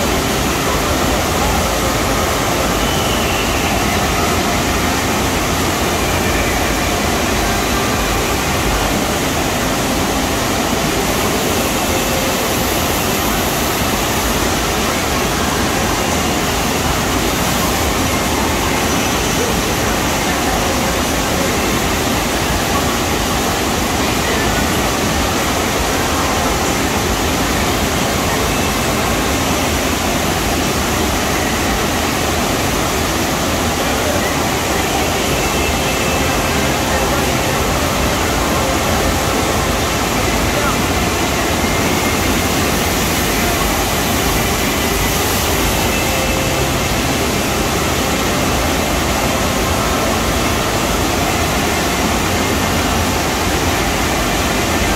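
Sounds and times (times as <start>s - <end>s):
rushing pumped water: 0.0s - 54.9s.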